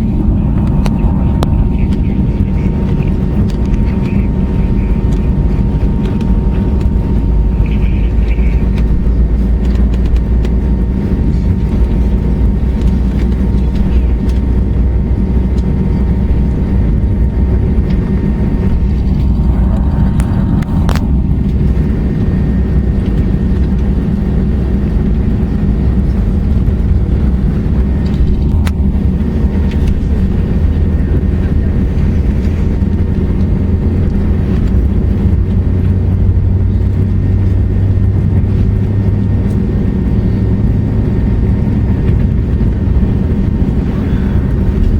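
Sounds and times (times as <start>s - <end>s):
airplane cabin engine rumble: 0.0s - 44.9s
faint steady whining tones: 0.0s - 44.9s.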